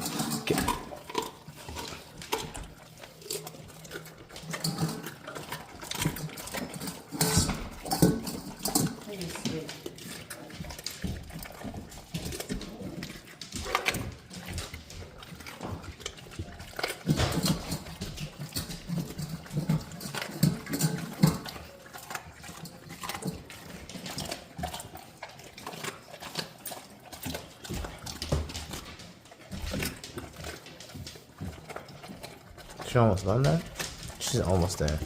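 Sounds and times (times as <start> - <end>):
dog chewing and crunching bone: 0.0 - 35.0.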